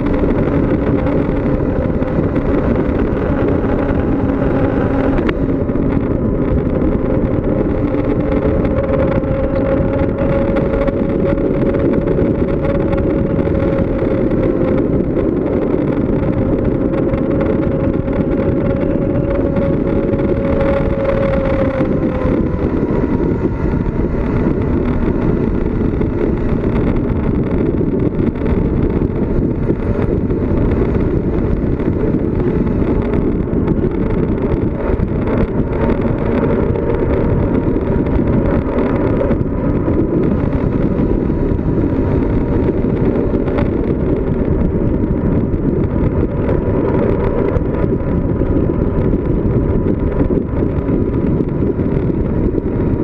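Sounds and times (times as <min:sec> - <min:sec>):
bicycle tyre noise: 0:00.0 - 0:53.0
wind over microphone: 0:00.0 - 0:53.0.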